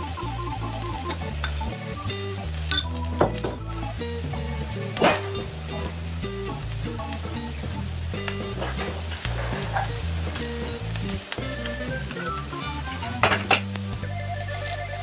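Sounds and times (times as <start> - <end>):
background music: 0.0 - 15.0
batter sizzling in a pan: 0.0 - 15.0.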